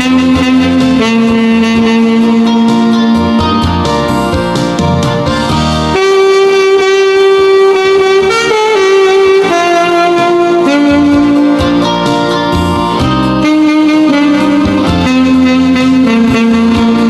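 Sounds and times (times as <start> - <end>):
alto saxophone melody: 0.0 - 17.0
backing track: 0.0 - 17.0.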